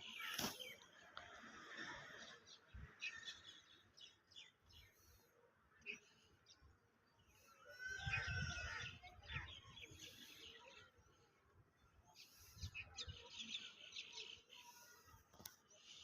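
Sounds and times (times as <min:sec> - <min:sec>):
small birds chirping: 0:00.0 - 0:01.2, 0:01.8 - 0:16.0.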